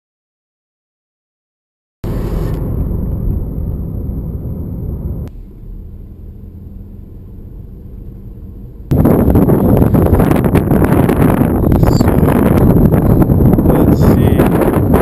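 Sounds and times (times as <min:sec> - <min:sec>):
car driving rumble: 0:02.0 - 0:15.0.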